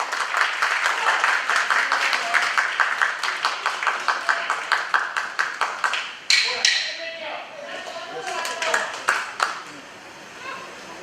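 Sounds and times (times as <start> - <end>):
crowd clapping: 0.0 - 6.9, 7.7 - 9.8.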